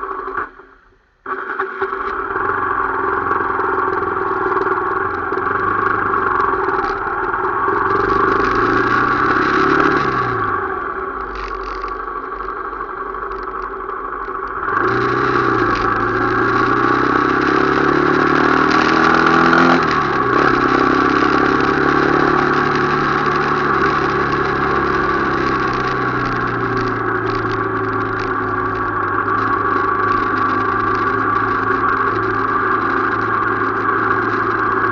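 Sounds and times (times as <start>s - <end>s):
motorcycle engine revving: 1.3s - 34.9s.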